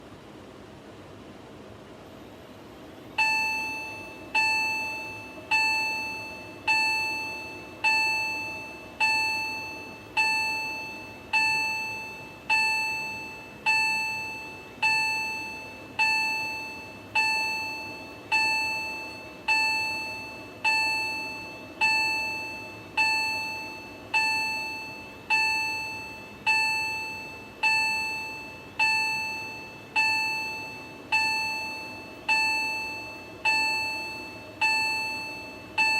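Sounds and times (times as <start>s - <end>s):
fire alarm bell ringing: 3.2s - 35.9s.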